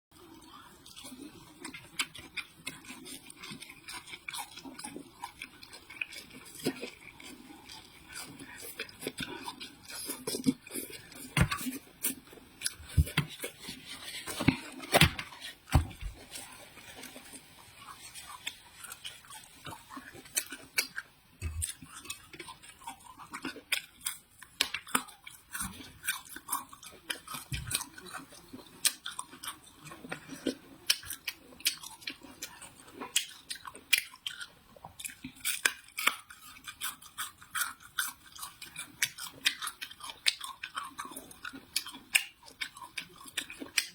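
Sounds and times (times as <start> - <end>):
crunchy chewing: 0.2 - 43.9.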